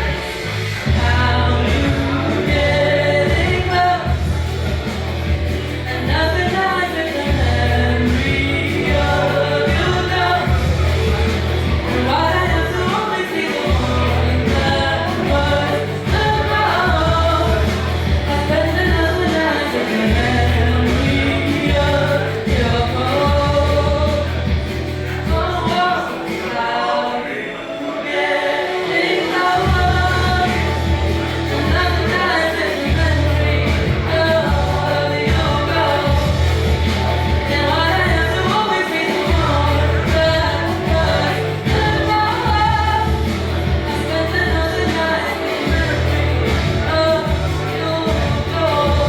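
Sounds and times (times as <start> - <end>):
music with heavy bass line: 0.0 - 27.0, 28.2 - 49.0
person singing: 0.0 - 49.0.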